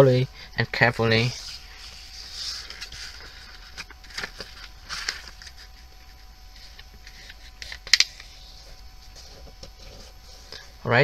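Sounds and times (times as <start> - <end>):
paper rustling and crackling: 1.2 - 10.7.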